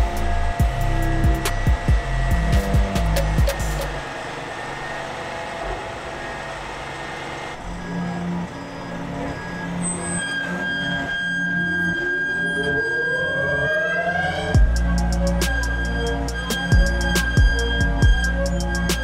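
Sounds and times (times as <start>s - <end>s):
rising mechanical whine: 0.0s - 19.0s
truck hydraulics running: 0.0s - 19.0s.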